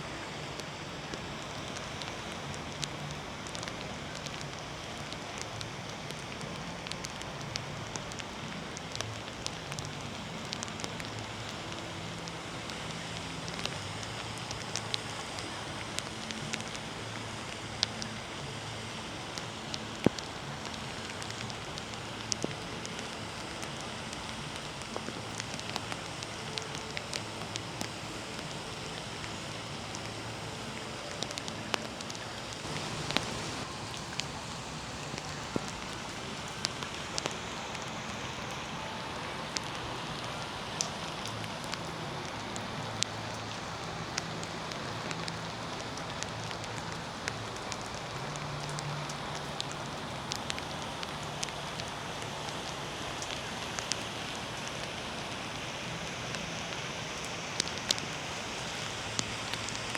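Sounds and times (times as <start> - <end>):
rain falling: 0.0 - 59.9
raindrops dripping close by: 0.0 - 59.9.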